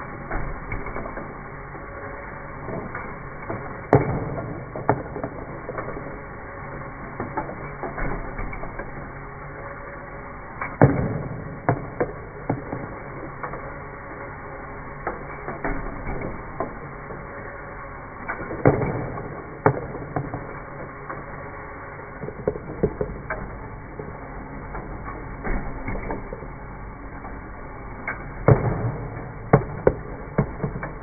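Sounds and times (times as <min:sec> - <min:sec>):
motor-driven gears humming: 0:00.0 - 0:31.0.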